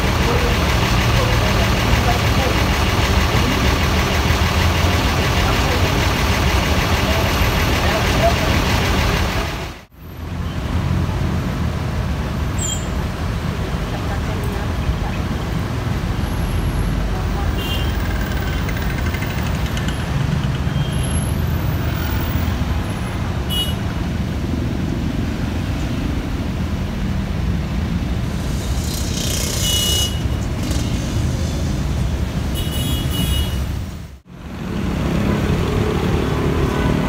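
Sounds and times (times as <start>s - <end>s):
diesel bus engines rumbling: 0.0s - 37.0s
road traffic: 0.0s - 37.0s.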